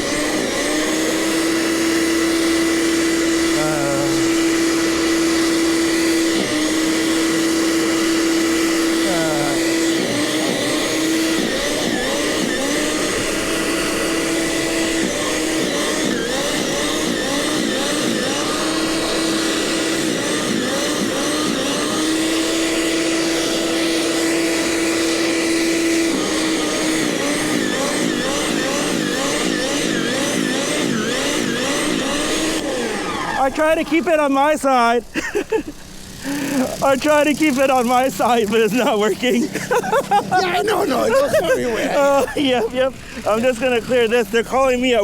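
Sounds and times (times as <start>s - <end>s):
snowblower engine running: 0.0s - 45.0s.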